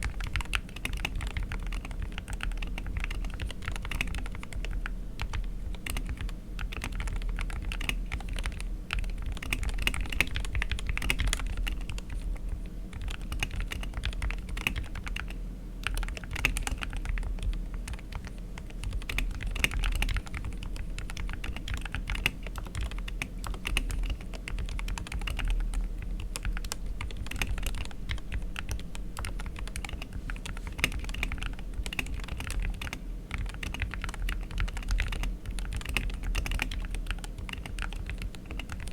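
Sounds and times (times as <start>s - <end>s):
keyboard typing clicks: 0.0s - 12.2s, 12.9s - 38.9s.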